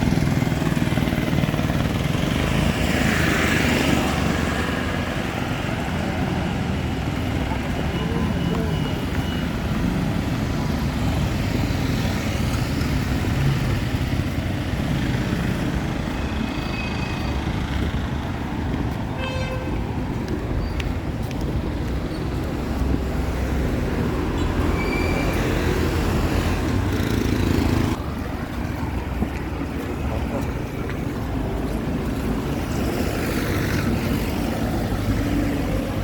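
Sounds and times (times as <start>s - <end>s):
passing vehicles rumbling: 0.0s - 36.0s.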